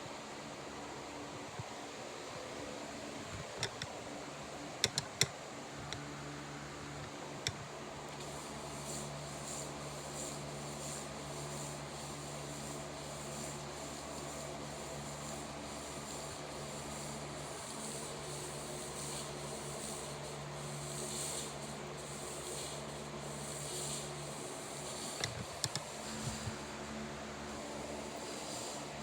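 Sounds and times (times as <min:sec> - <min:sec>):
low machine hum: 0:00.0 - 0:29.0
steady rushing hiss: 0:04.9 - 0:29.0.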